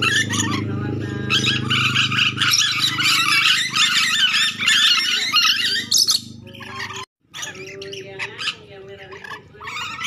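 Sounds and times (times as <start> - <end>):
parrots chattering and squawking: 0.0 - 10.0.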